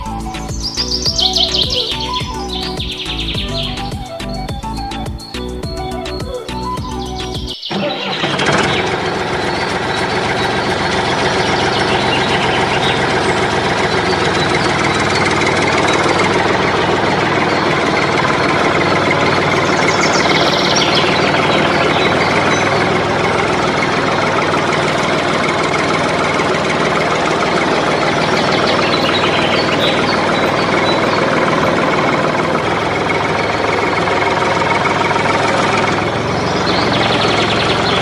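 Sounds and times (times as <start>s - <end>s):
diesel tractor engine knocking: 0.0s - 38.0s
high chirps: 0.0s - 38.0s.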